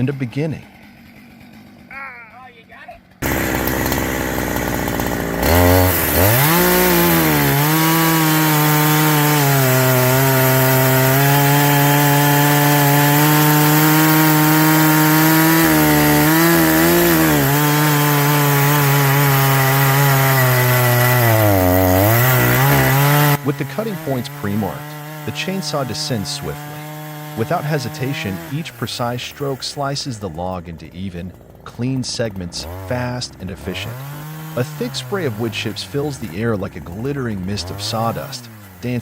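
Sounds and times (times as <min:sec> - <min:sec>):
chainsaw cutting log: 0:00.0 - 0:39.0.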